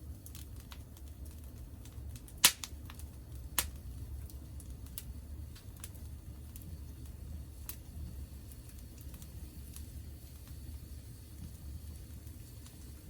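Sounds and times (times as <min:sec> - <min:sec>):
sharp pops from fire: 0:00.0 - 0:13.0
wood fire crackling: 0:00.0 - 0:13.0.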